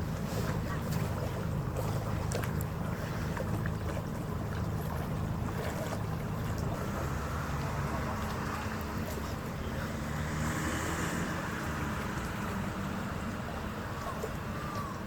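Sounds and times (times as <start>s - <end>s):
ship engines droning: 0.0s - 15.0s
water rushing along hull: 0.0s - 15.0s.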